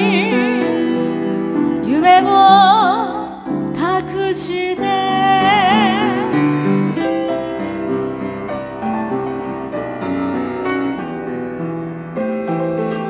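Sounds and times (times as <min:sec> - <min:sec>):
solo piano ballad: 0:00.0 - 0:13.0.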